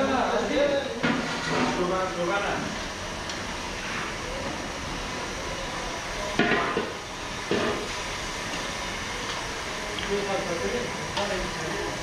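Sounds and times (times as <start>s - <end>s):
sizzling hiss from pot: 0.0s - 12.0s.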